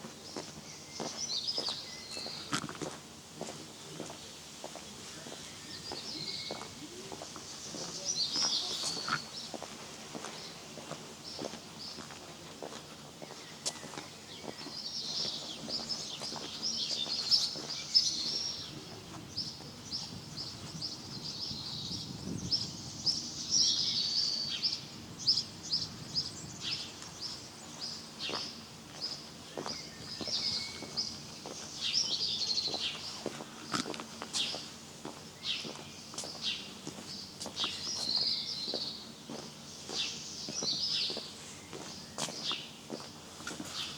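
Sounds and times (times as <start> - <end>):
songbirds chirping and twittering: 0.0 - 43.9.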